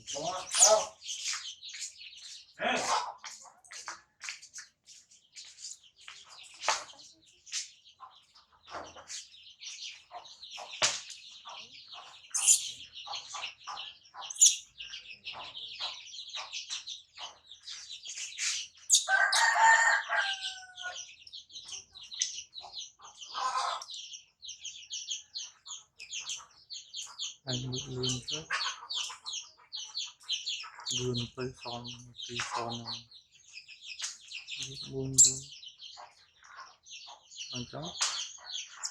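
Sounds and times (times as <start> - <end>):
rapid high chirping calls: 0.0 - 3.0, 5.4 - 38.9.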